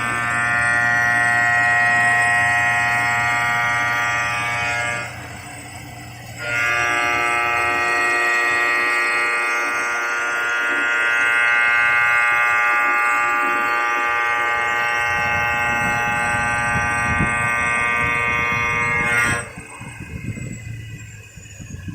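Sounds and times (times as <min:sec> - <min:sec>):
machine high-pitched whine: 0:00.0 - 0:21.9
rough low machine noise: 0:00.0 - 0:21.9.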